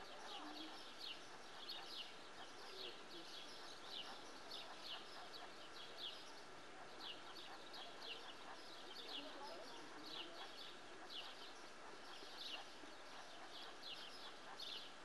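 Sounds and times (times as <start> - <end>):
faint steady hiss: 0.0 - 15.0
small birds chirping: 0.0 - 15.0.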